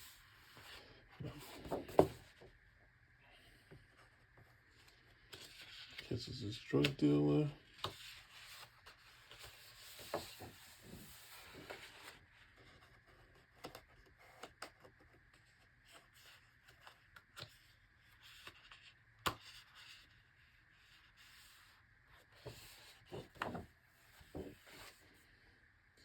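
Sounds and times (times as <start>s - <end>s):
book pages rustling and turning: 0.0s - 2.5s, 3.8s - 20.2s, 20.8s - 25.3s.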